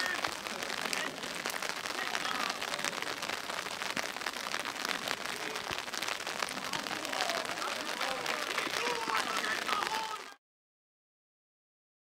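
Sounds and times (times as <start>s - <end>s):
steady rain pattering: 0.0s - 10.4s.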